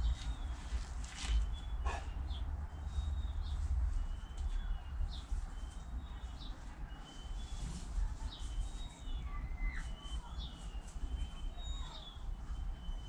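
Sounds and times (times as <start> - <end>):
small bird chirps: 1.2 - 13.0.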